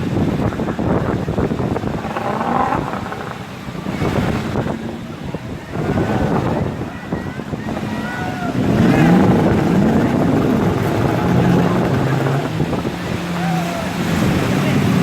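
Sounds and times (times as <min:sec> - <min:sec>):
rushing water: 0:00.0 - 0:15.0
wind buffeting microphone: 0:00.0 - 0:15.0.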